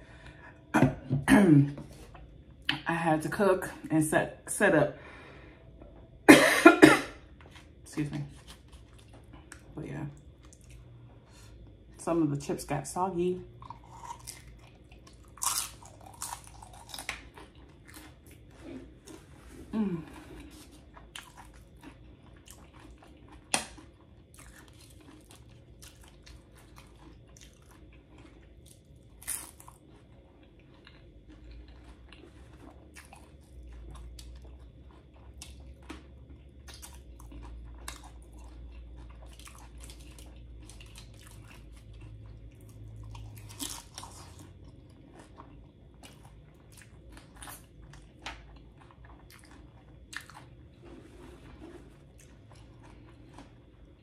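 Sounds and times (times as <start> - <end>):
person chewing crunchy chips: 7.1 - 11.9, 13.5 - 54.0.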